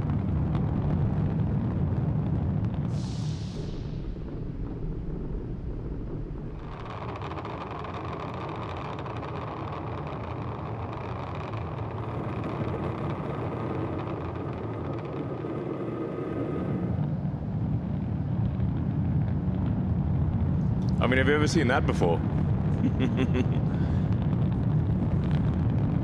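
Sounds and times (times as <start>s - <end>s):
rocket engine roar: 0.0s - 26.0s.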